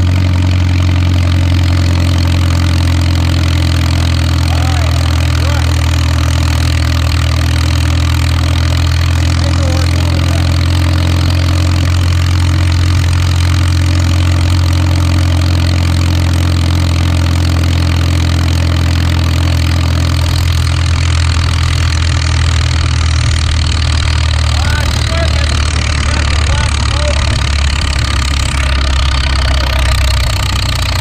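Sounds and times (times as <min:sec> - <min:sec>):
tractor engine droning: 0:00.0 - 0:31.0.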